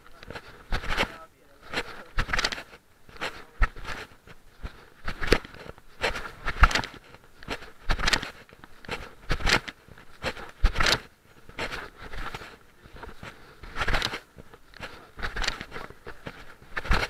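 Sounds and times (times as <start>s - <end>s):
rustles and knocks: 0.0s - 17.0s.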